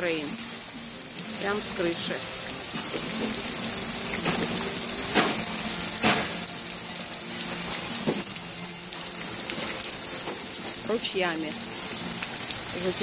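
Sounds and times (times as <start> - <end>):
heavy rain on pool water: 0.0 - 13.0
water pouring off roof: 0.0 - 13.0
water splashes: 0.0 - 13.0.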